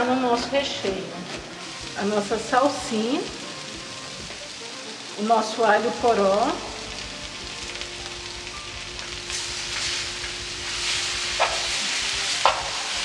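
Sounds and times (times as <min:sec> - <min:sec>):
filling sizzling in a frying pan: 0:00.0 - 0:13.0.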